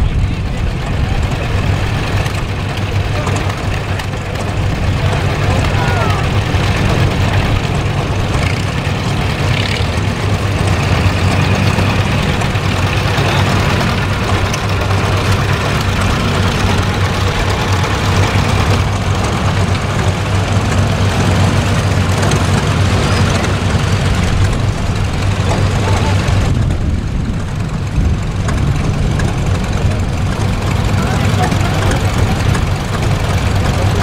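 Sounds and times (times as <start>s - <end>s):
tractor engines droning: 0.0s - 34.0s.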